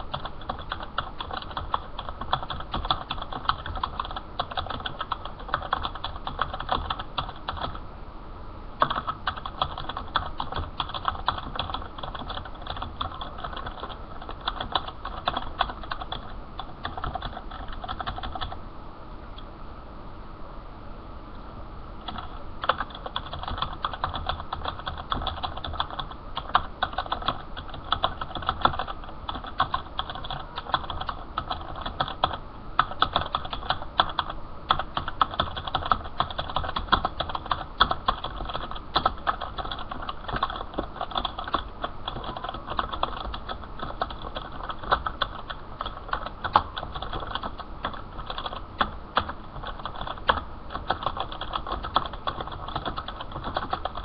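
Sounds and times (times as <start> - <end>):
typing on computer keyboard: 0.0 - 7.8, 8.8 - 18.6, 22.0 - 54.0.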